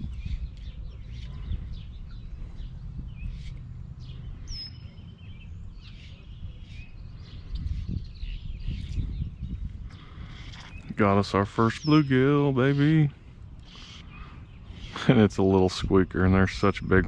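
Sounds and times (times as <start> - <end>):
low microphone rumble: 0.0 - 17.0
songbirds chirping: 0.0 - 17.0.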